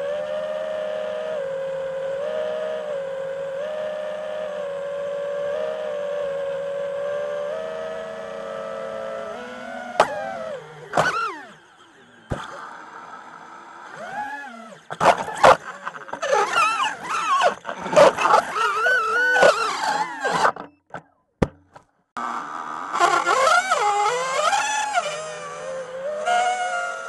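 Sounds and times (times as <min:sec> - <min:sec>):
drone motors whining: 0:00.0 - 0:21.1, 0:21.7 - 0:27.0.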